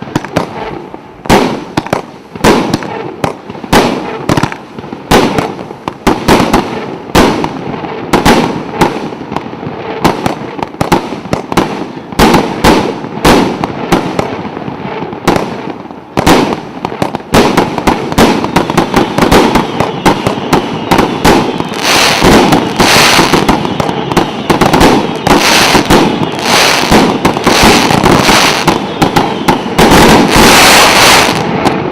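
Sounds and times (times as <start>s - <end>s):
fireworks crackling: 0.0s - 31.9s
fireworks shots and bursts: 0.0s - 31.9s.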